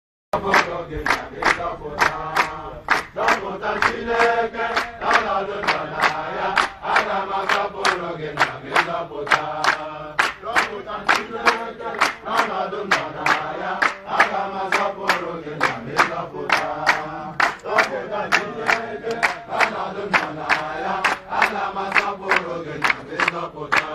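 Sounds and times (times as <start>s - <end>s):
group of men singing: 0.4s - 23.9s
rhythmic hand-clapping: 0.4s - 23.9s.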